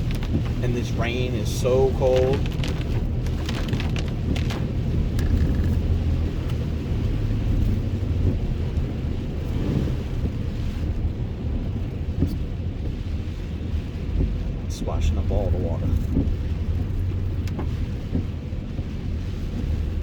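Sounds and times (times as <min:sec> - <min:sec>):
truck engine and tyre rumble: 0:00.0 - 0:20.0
tyres splashing through water: 0:00.0 - 0:20.0.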